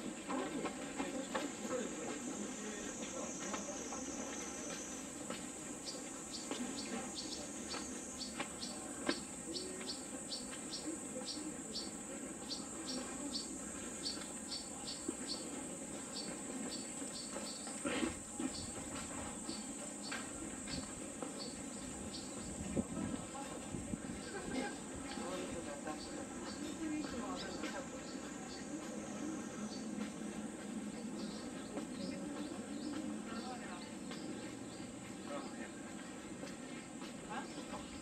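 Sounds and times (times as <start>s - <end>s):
insects droning high-pitched: 0.0s - 38.0s.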